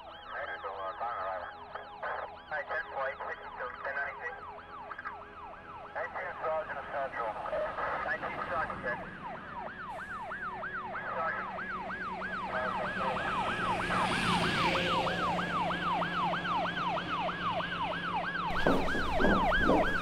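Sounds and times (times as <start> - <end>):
siren in fast yelp: 0.0 - 20.0.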